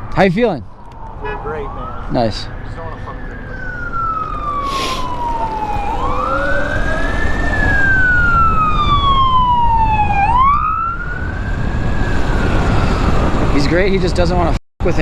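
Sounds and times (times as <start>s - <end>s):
low wind rumble: 0.0s - 15.0s
emergency siren wailing: 0.6s - 14.2s.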